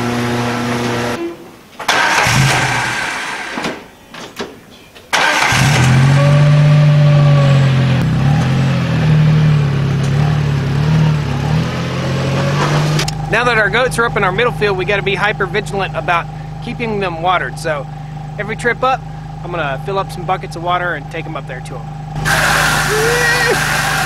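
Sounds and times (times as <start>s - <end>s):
utility vehicle engine: 0.0s - 3.9s, 5.1s - 24.0s.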